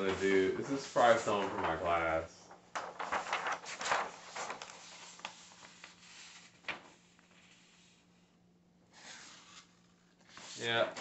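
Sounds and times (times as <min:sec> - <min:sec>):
paper rustling: 0:00.0 - 0:08.1, 0:09.0 - 0:11.0
faint steady hum: 0:00.0 - 0:11.0.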